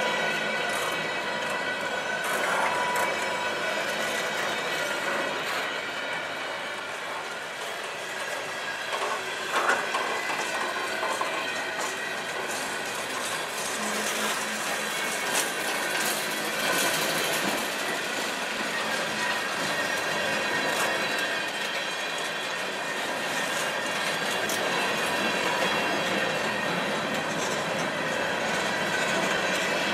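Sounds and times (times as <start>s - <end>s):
high wheel squeal: 0.0s - 29.9s
train wheels rumbling on rail: 0.0s - 29.9s.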